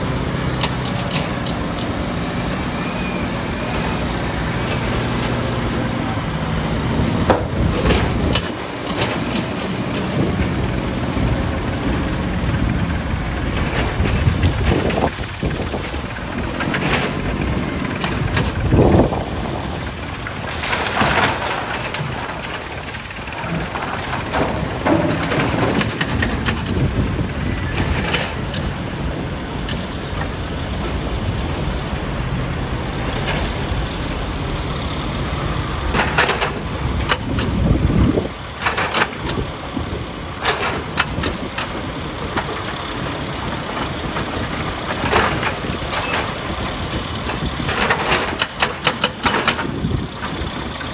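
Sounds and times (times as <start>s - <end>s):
diesel machinery running: 0.0s - 50.9s
knocks and clatter: 0.1s - 2.6s, 3.3s - 50.9s.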